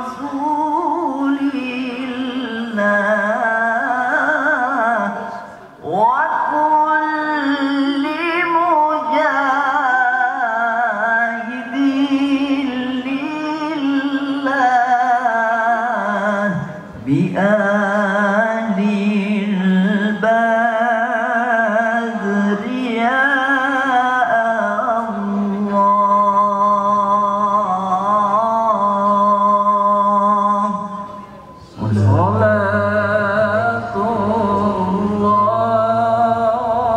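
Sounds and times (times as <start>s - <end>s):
man chanting quran recitation: 0.0s - 36.9s.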